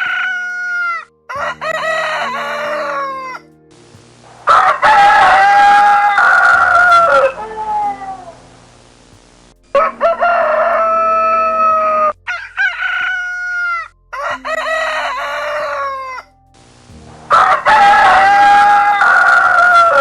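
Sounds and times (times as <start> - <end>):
rooster crowing: 0.0 - 3.4, 4.5 - 8.4, 9.8 - 16.3, 17.3 - 20.0.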